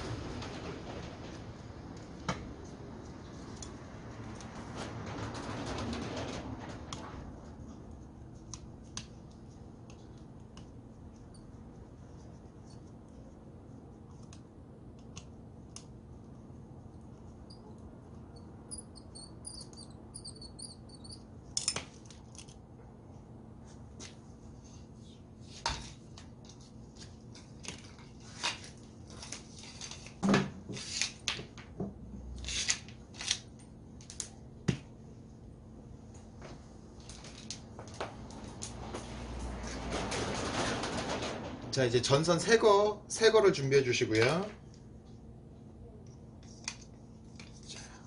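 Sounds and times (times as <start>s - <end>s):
low steady hum: 0.0s - 40.6s.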